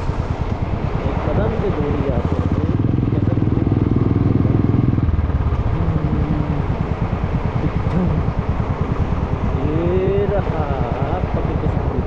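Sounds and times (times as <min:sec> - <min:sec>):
loud motorcycle engine: 0:00.0 - 0:12.0.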